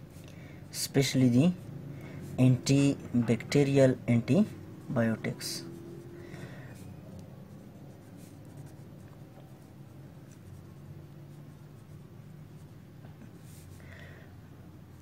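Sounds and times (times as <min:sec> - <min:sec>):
marker scratching on paper: 0:00.0 - 0:13.8
faint low hum: 0:00.0 - 0:15.0.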